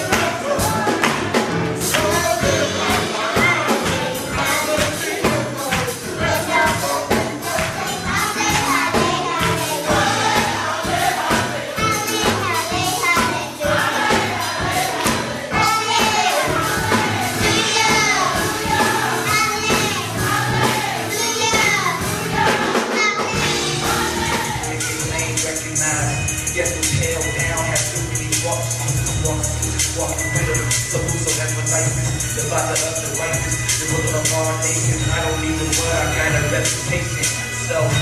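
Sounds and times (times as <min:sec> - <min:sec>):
steady beat: 0:00.0 - 0:22.8, 0:23.4 - 0:34.8
choir singing gospel music: 0:00.0 - 0:38.0.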